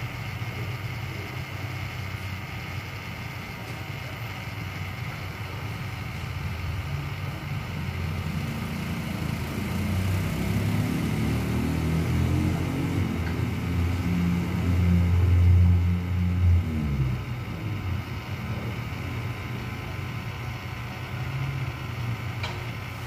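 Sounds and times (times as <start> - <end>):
low engine rumble: 0.0 - 23.0
small fan running: 0.0 - 23.0.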